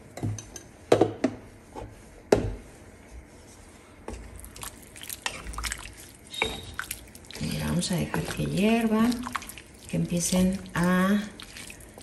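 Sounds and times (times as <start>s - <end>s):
wooden spoon scraping in pot: 1.6s - 12.0s.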